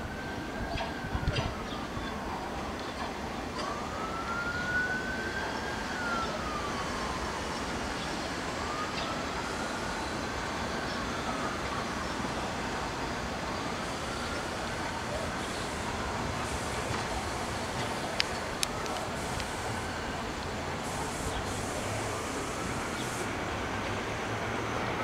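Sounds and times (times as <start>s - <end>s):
siren wailing: 0.0s - 2.3s, 3.5s - 23.4s
subway train rumble: 0.0s - 25.0s.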